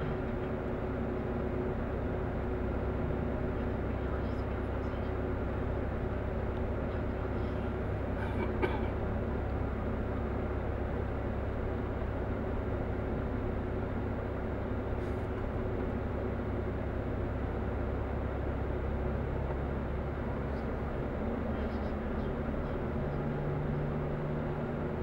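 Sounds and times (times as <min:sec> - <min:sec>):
vehicle driving at highway speed: 0:00.0 - 0:25.0.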